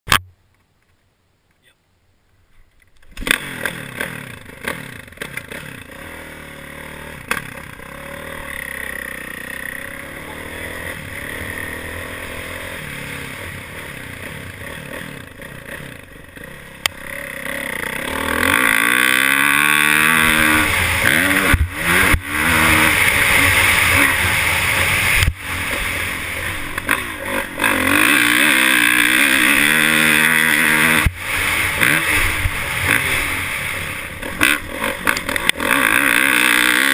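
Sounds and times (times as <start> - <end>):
motorcycle engine revving: 3.1 - 36.9.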